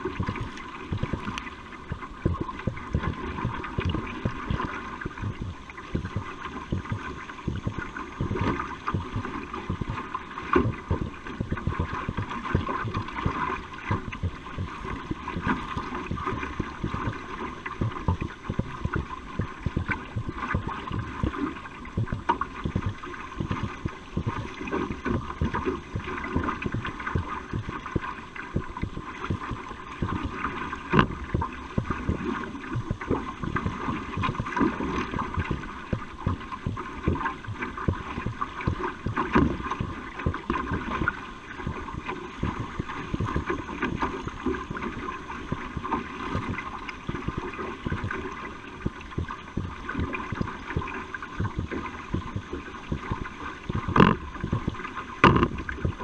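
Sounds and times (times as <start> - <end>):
paddle splashes: 0.0 - 56.0
water rushing along canoe hull: 0.0 - 56.0.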